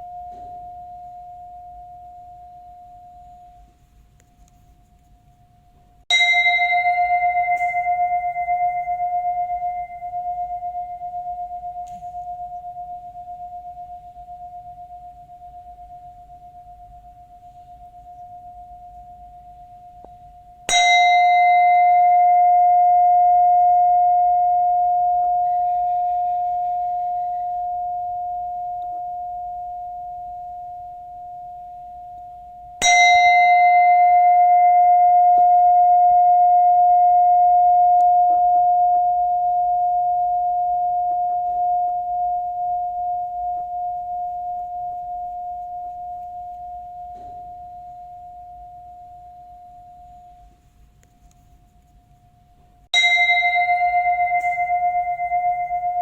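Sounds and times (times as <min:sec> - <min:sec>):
prayer bell ringing: 0:06.1 - 0:19.9, 0:20.7 - 0:31.6, 0:32.8 - 0:50.3, 0:53.0 - 0:56.0.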